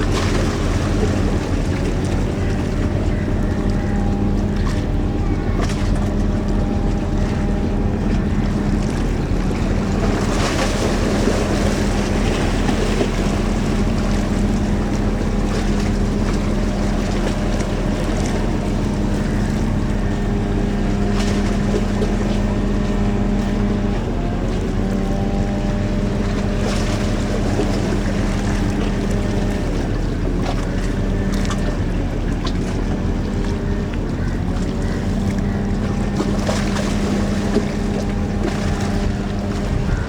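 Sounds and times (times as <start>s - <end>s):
boat engine droning: 0.0s - 40.0s
rushing water: 0.0s - 40.0s.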